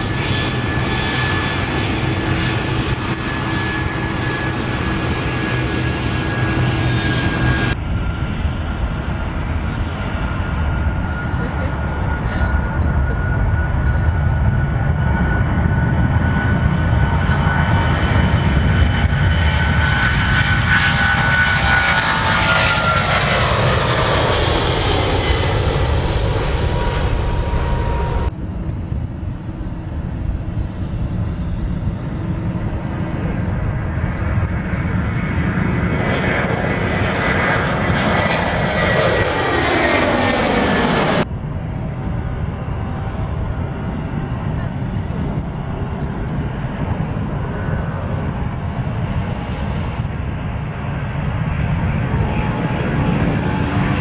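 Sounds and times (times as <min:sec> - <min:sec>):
jet airliner passing: 0:00.0 - 0:54.0
jet engines at takeoff with fan whine: 0:00.0 - 0:54.0.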